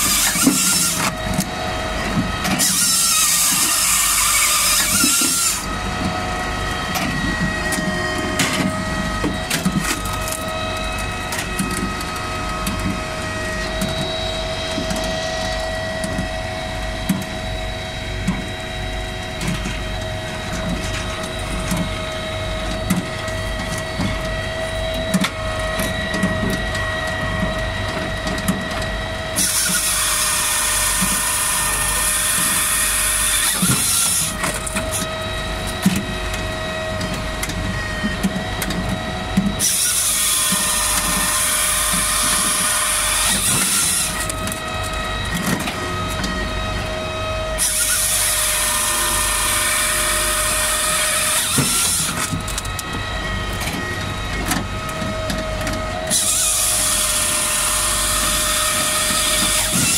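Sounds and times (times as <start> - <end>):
circular saw cutting logs: 0.0 - 17.4, 28.6 - 59.9
machine droning: 0.0 - 59.9.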